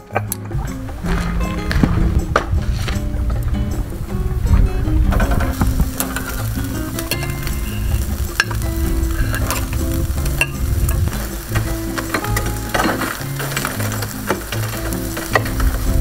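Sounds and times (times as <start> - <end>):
skewers clicking: 0.0 - 16.0
upbeat samba music: 0.0 - 16.0
food sizzling on a grill: 2.6 - 16.0.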